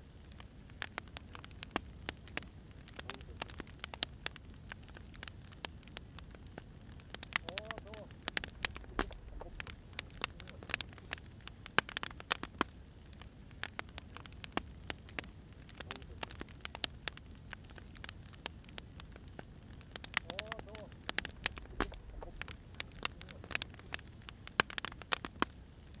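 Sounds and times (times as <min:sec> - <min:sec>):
firewood crackling: 0:00.0 - 0:26.0.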